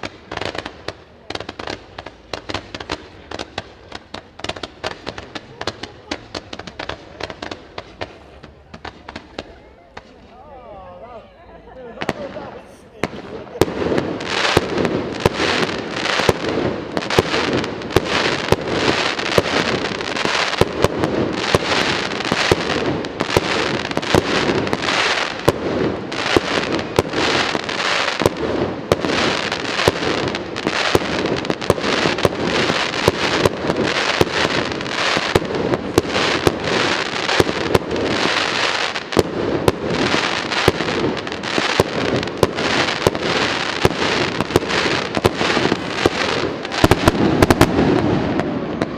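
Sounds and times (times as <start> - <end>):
fireworks bursting with bangs: 0.0 - 11.1, 11.8 - 48.9.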